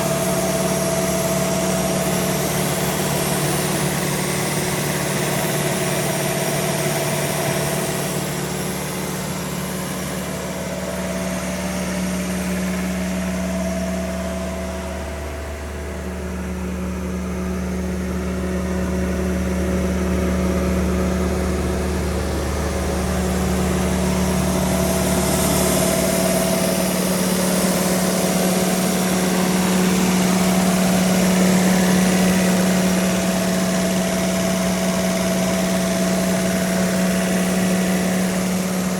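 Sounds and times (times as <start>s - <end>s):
diesel compressor engine humming: 0.0s - 38.9s.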